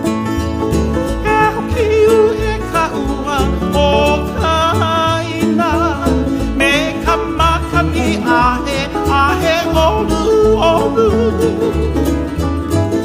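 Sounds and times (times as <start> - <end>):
banjo and guitar plucking: 0.0 - 13.0
bass beat: 0.0 - 13.0
bluegrass music: 0.0 - 13.0
person singing: 1.1 - 12.3.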